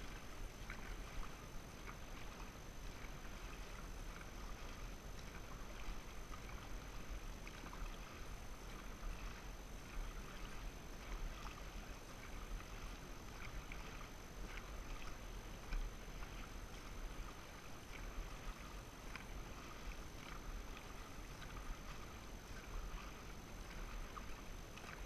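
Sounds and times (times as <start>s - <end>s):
paddles splashing in water: 0.0s - 25.0s
water washing past hull: 0.0s - 25.0s.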